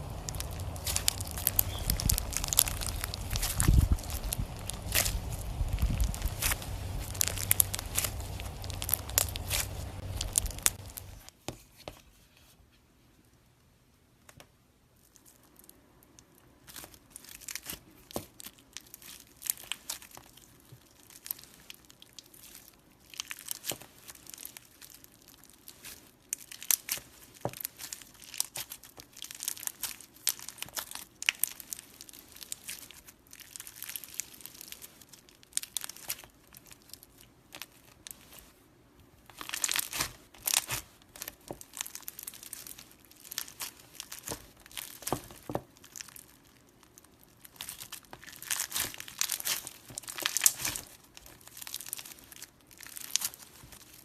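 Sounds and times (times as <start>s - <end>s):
slime squished by hand: 0.0s - 11.3s, 16.6s - 38.5s, 39.3s - 54.0s.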